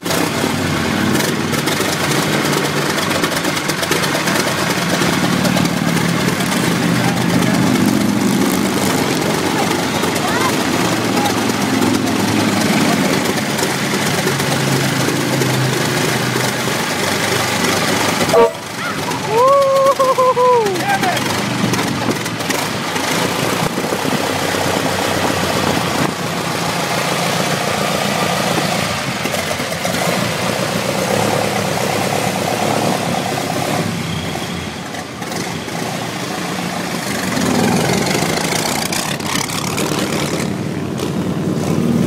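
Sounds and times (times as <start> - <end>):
car engine running: 0.0 - 34.3, 35.0 - 42.0.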